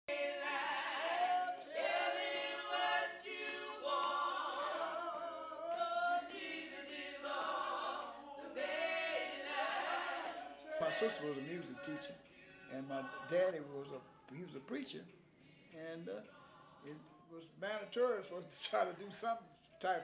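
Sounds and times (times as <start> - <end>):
gospel group singing a cappella: 0.0 - 17.2.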